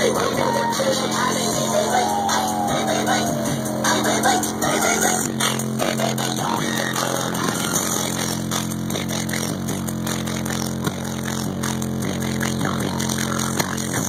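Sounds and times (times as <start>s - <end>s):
distorted hip-hop bass: 0.0s - 14.0s.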